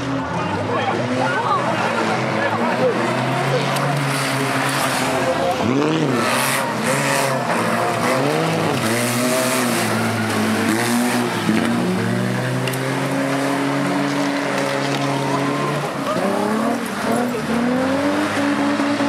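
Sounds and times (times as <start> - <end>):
racing car engines revving: 0.0 - 19.0
tyre and track noise: 0.1 - 19.0.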